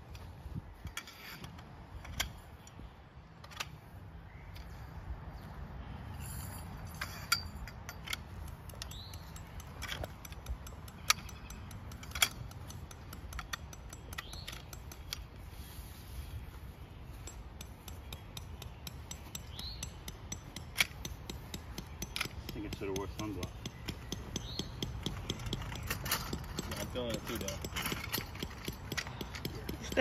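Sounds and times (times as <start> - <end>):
tent poles clicking together: 0.0 - 5.5, 6.6 - 30.0.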